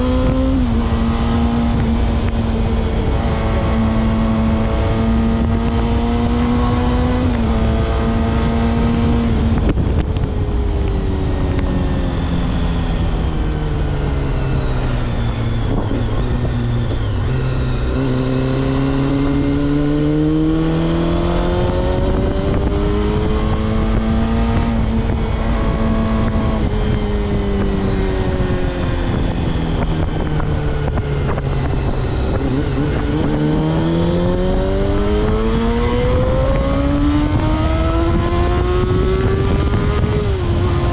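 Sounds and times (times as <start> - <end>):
motorcycle engine revving: 0.0 - 40.9
wind rumble on microphone: 0.0 - 40.9.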